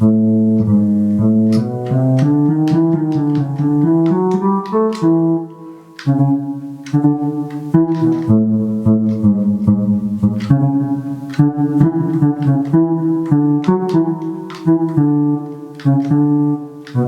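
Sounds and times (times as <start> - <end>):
electronic wind instrument bass notes: 0.0 - 17.0.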